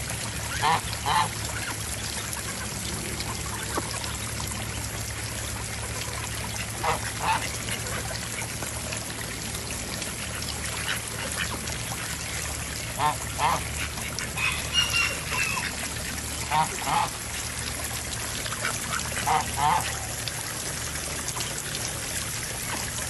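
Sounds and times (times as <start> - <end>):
trickling water: 0.0 - 23.0.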